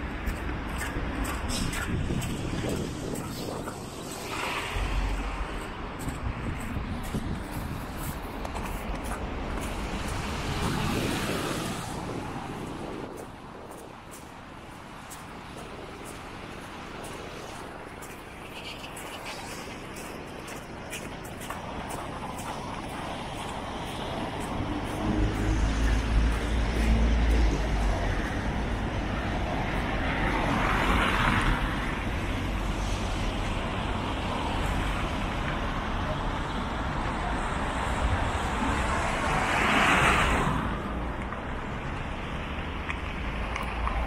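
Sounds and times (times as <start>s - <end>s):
cars passing on wet road: 0.0s - 44.0s
traffic rumble: 0.0s - 44.0s.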